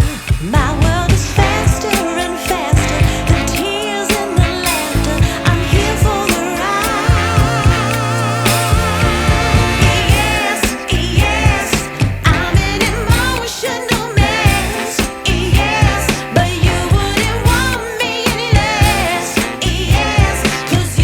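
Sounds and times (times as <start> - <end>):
song with singing voice: 0.0 - 21.0.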